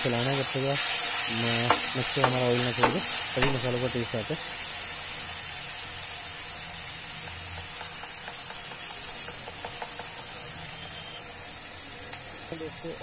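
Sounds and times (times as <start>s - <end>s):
masala sizzling in oil: 0.0s - 13.0s.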